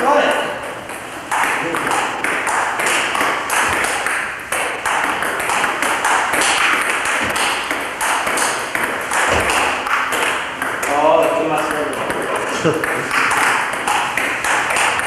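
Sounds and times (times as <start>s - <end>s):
table tennis ball clicking: 0.6s - 15.0s.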